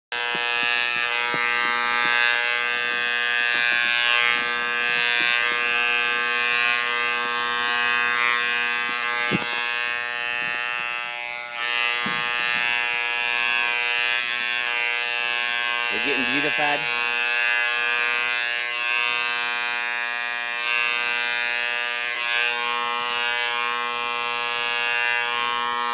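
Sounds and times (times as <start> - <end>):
electric clippers buzzing: 0.1 - 25.9.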